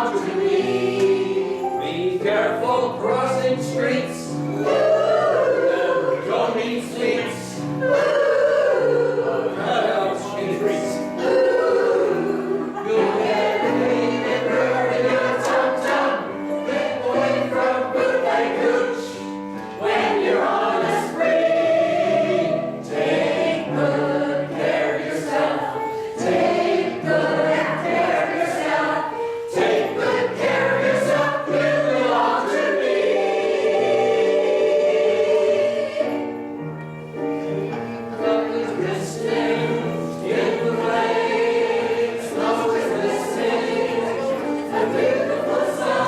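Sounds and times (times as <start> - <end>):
choir singing: 0.0 - 46.0.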